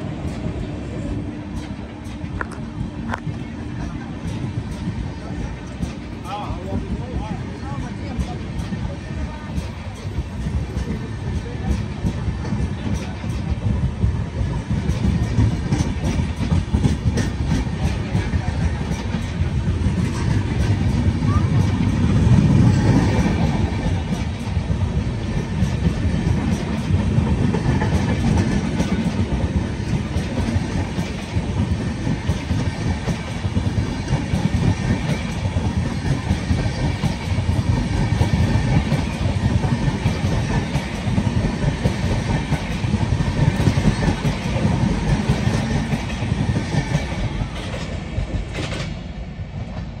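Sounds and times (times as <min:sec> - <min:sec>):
train wheels rolling on rails: 0:00.0 - 0:50.0.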